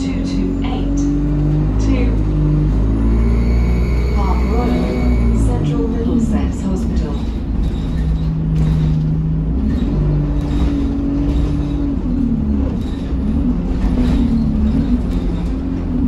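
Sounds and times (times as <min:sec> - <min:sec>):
bus engine rumble and whine: 0:00.0 - 0:16.0.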